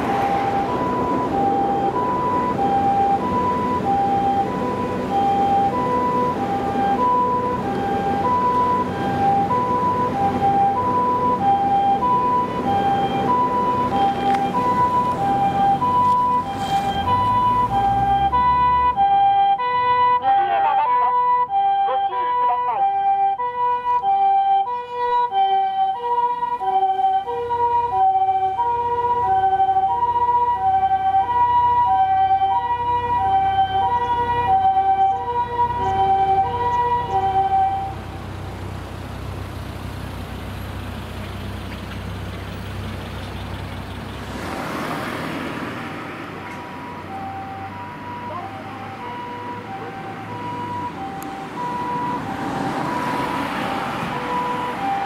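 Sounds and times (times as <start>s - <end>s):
engine rumble: 0.0s - 20.4s, 21.2s - 55.0s
ambulance two-tone siren: 0.0s - 38.4s, 45.2s - 55.0s
passing vehicle: 0.0s - 55.0s.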